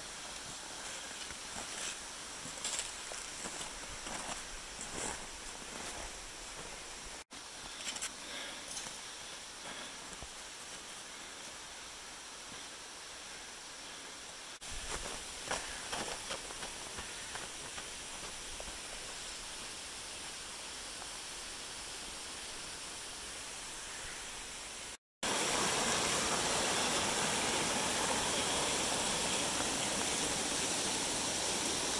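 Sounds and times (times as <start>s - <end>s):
steady rushing hiss: 0.0s - 31.9s.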